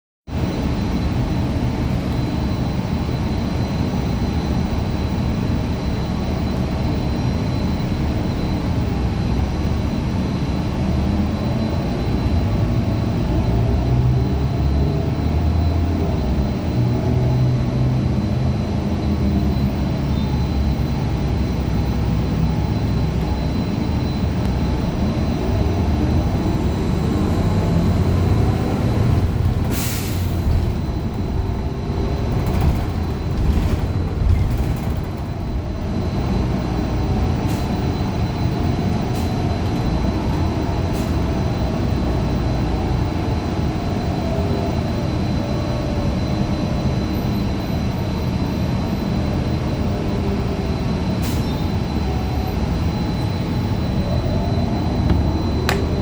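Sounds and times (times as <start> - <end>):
road rumble: 0.3 - 44.1, 51.6 - 56.0
bus engine: 0.3 - 56.0.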